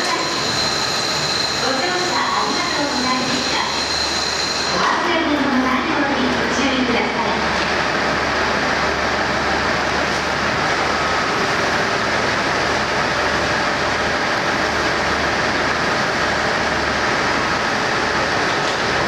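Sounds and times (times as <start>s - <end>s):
loud mechanical noise: 0.0s - 19.0s.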